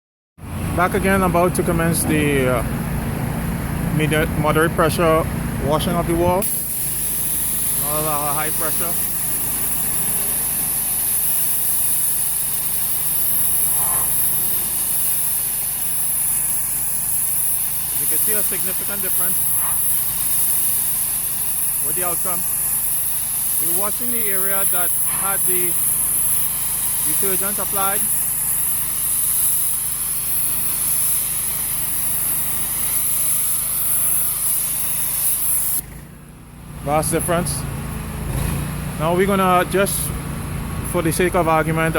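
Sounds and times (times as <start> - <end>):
pressure washer engine hum: 0.4 - 41.9
water jet spraying brick: 4.0 - 36.1, 36.8 - 41.9.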